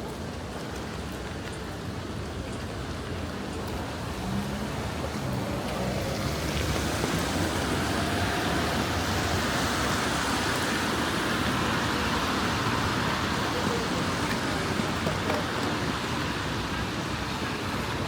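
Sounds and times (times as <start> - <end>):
steady rain: 0.0 - 18.0
traffic rushing: 1.0 - 18.0.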